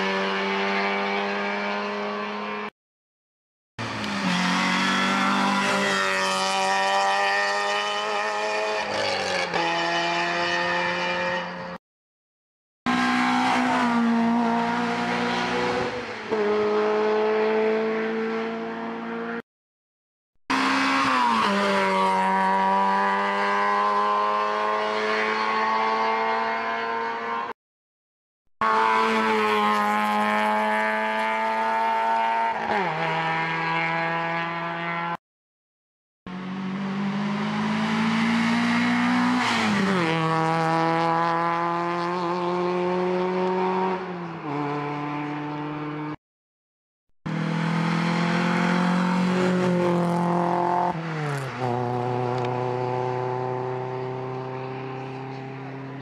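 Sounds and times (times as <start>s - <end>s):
rally car engines revving past: 0.0s - 2.7s, 3.8s - 11.8s, 12.9s - 19.4s, 20.5s - 27.5s, 28.6s - 35.2s, 36.3s - 46.2s, 47.3s - 56.0s.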